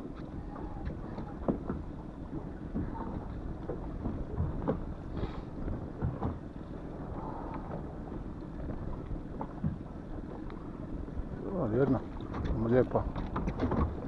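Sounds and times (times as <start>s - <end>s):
choppy sea against boat: 0.0s - 14.0s.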